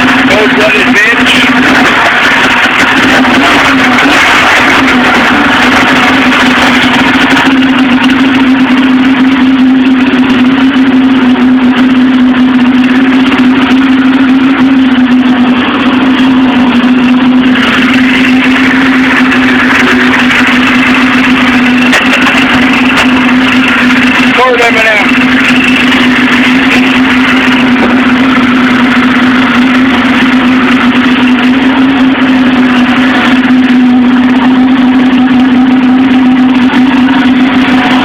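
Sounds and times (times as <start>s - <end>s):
snowmobile engine idling: 0.0s - 38.0s.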